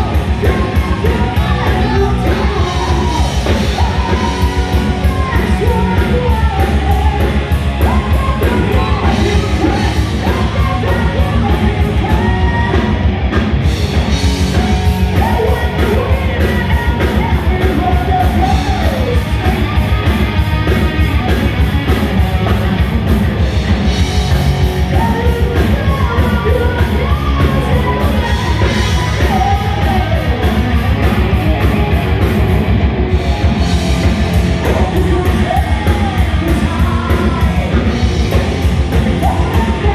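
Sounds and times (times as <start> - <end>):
heavy metal band playing live: 0.0 - 39.9.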